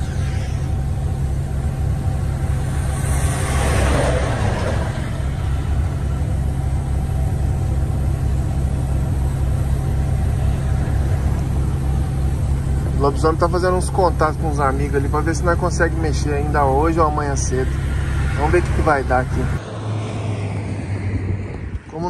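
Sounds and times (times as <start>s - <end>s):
road noise: 0.0s - 22.0s
rushing noise: 0.0s - 22.0s
truck engine running: 0.0s - 22.0s.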